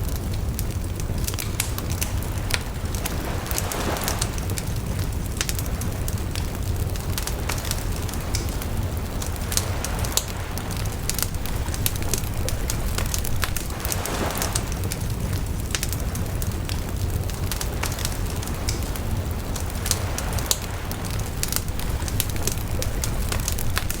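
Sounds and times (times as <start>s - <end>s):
bonfire crackling and popping: 0.0s - 24.0s
hissing fire: 0.0s - 24.0s
low rumble of flames: 0.0s - 24.0s.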